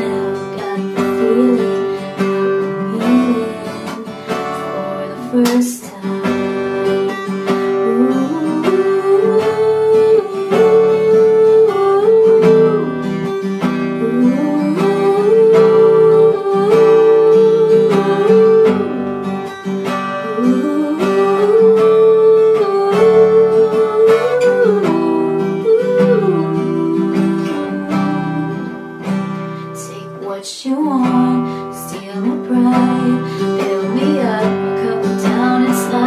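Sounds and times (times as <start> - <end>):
acoustic guitar strumming chords: 0.0 - 36.0
sliding held melody: 6.2 - 36.0.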